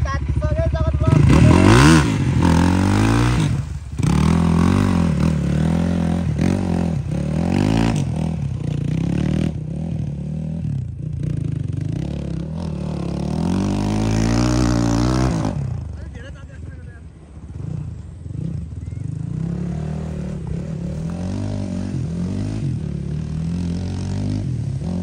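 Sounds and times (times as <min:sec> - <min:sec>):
dirt bike engine revving: 0:00.0 - 0:16.6, 0:17.3 - 0:25.0.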